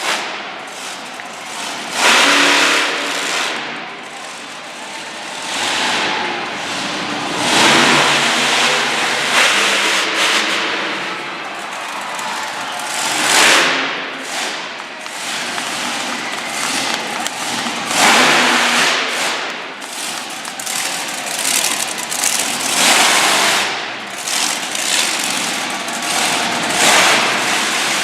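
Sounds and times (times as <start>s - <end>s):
truck engine revving hard: 0.0s - 28.0s.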